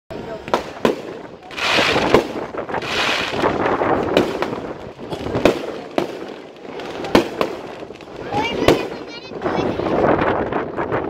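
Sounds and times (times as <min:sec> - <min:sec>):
fireworks bangs: 0:00.1 - 0:11.0.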